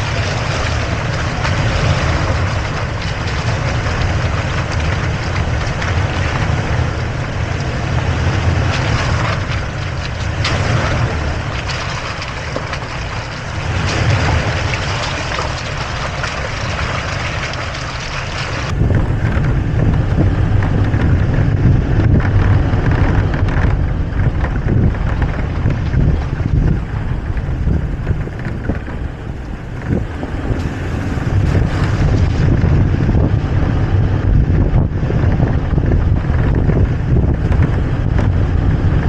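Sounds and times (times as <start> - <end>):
low engine rumble: 0.0 - 39.0
tyres crackling on dirt trail: 0.0 - 39.0
wind on microphone: 0.0 - 39.0.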